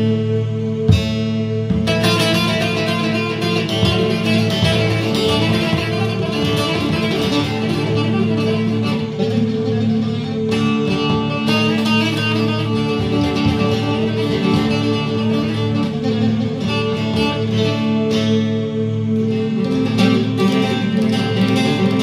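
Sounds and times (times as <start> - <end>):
plucked string instrument music: 0.0 - 22.0.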